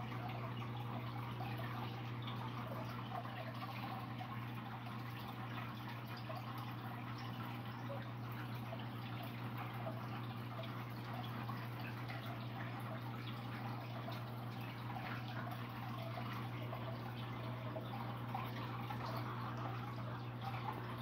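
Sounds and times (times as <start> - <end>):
water dripping and bubbling: 0.0 - 21.0.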